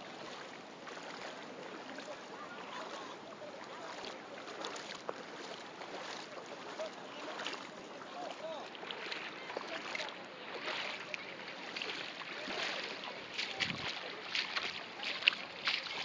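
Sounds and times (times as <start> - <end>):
floodwater rushing: 0.0 - 16.0
faint distant voices: 0.2 - 16.0.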